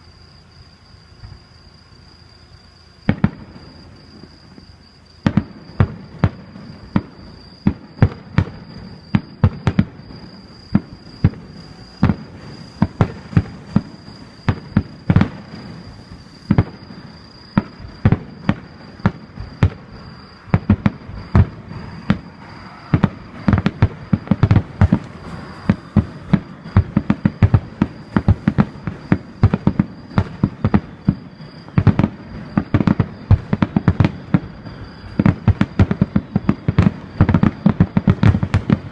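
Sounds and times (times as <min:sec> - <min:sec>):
fireworks bursting: 0:03.0 - 0:38.9.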